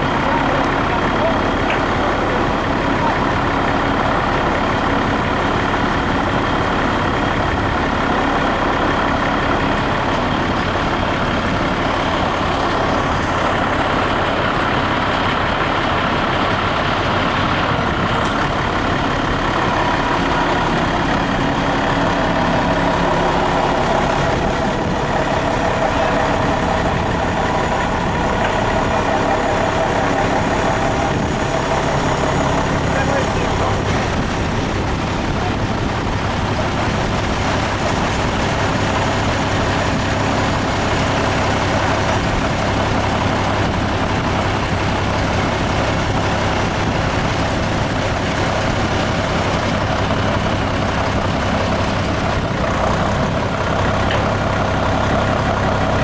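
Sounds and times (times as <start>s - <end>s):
heavy vehicle engine droning: 0.0s - 56.0s.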